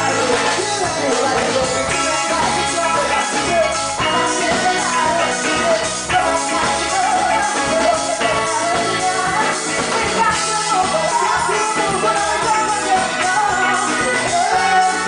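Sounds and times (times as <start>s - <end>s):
drums playing steady beat: 0.0s - 15.0s
electric guitar: 0.0s - 15.0s
keyboards: 0.0s - 15.0s
woman singing: 0.0s - 15.0s.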